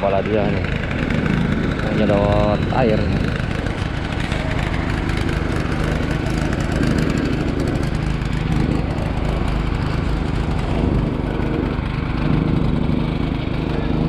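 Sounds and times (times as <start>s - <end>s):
truck engine and pump running: 0.0s - 14.0s.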